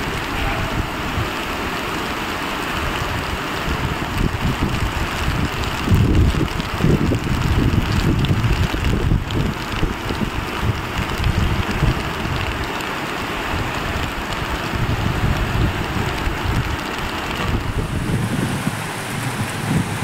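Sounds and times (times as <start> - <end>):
wind buffeting microphone: 0.0 - 1.7, 2.7 - 20.0
floodwater rushing: 0.0 - 20.0.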